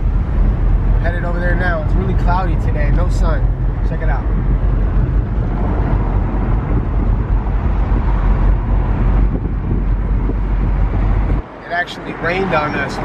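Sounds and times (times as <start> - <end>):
wind rumbling on microphone: 0.0 - 11.6
vehicle engine and road noise: 0.0 - 13.0.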